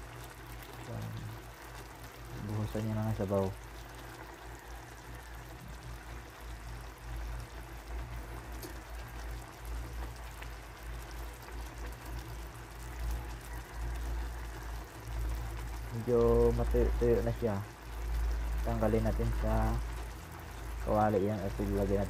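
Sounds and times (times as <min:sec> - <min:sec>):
sauce sizzling and bubbling: 0:00.0 - 0:22.0.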